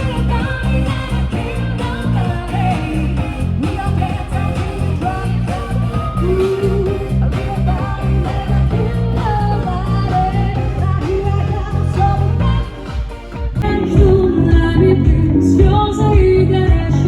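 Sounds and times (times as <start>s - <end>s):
electric guitar: 0.0s - 17.0s
lead vocal singing: 0.0s - 17.0s
pulsing bass line: 0.0s - 17.0s.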